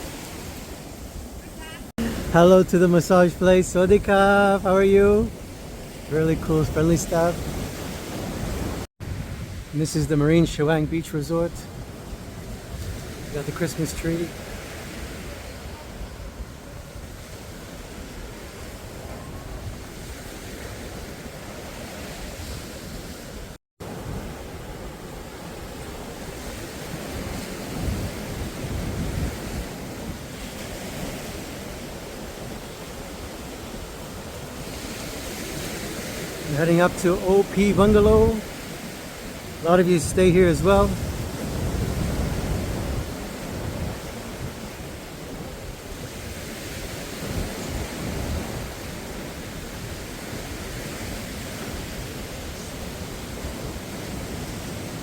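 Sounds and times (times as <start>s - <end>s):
sea surf washing on beach: 0.0s - 55.0s
wind buffeting microphone: 5.0s - 13.6s, 14.3s - 55.0s.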